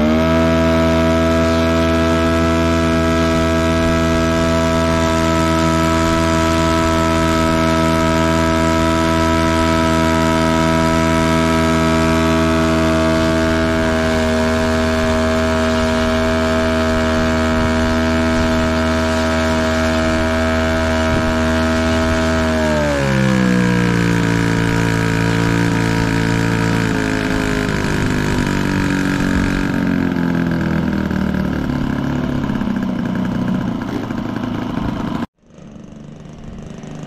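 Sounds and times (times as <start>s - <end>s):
model plane engine running: 0.0s - 37.0s.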